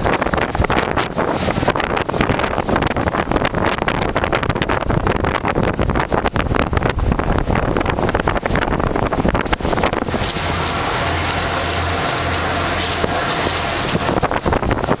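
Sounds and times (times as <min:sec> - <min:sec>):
boat engine drone: 0:00.0 - 0:15.0
wind buffeting microphone: 0:00.0 - 0:15.0.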